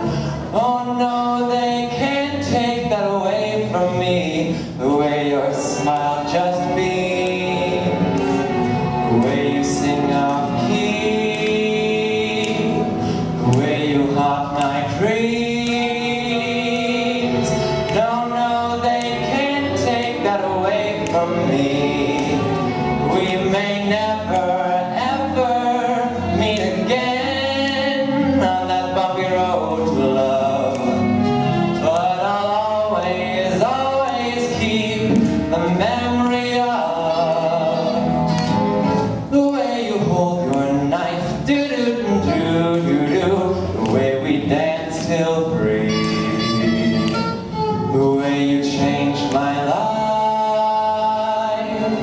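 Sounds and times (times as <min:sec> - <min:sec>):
man singing into microphone: 0:00.0 - 0:47.2, 0:47.9 - 0:52.0
instrumental backing: 0:00.0 - 0:52.0.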